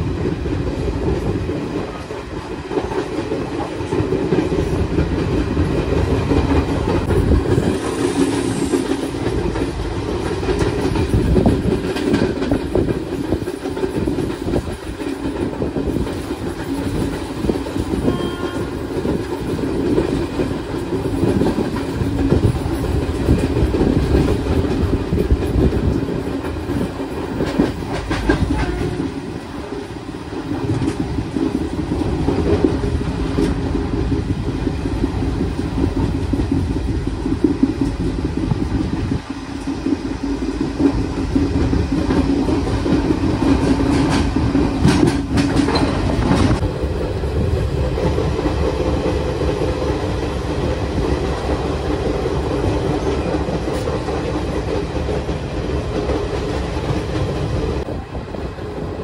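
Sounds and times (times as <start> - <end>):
train wheels rumbling on rails: 0.0 - 59.0
sharp track clacks: 0.7 - 57.9.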